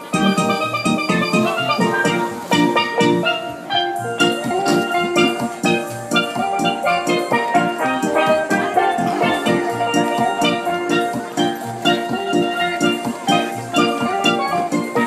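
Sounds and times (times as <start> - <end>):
lively music with steady beat: 0.0 - 15.0.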